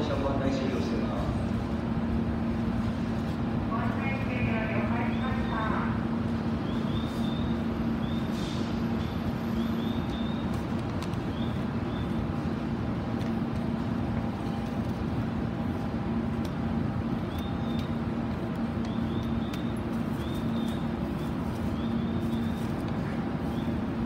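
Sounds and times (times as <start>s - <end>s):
rumbling background noise: 0.0s - 24.0s
steady low hum: 0.0s - 24.0s.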